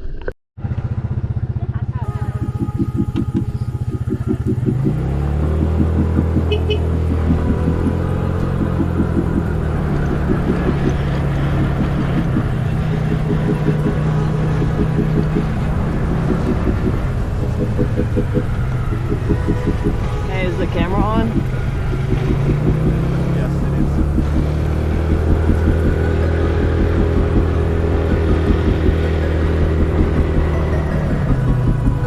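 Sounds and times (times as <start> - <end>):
vehicle engine accelerating: 0.6 - 32.0.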